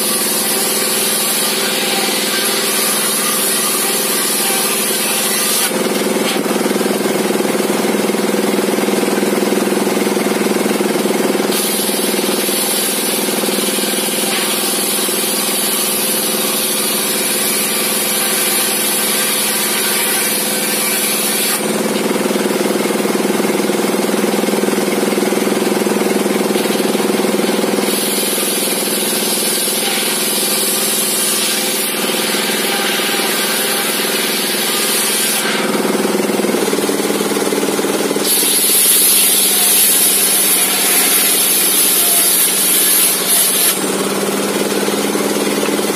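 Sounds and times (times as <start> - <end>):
table circular saw cutting wood: 0.0 - 45.9.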